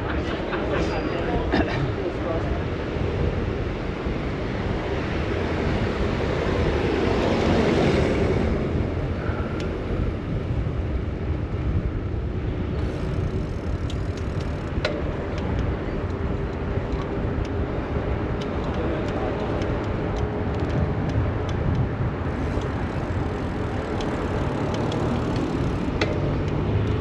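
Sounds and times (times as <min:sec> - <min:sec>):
road traffic: 0:00.0 - 0:27.0
wind rushing over microphone: 0:00.0 - 0:27.0.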